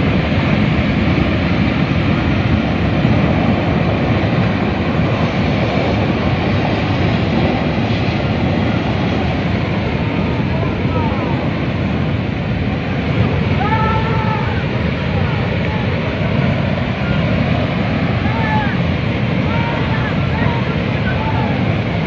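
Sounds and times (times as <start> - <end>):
rushing floodwater: 0.0 - 22.0.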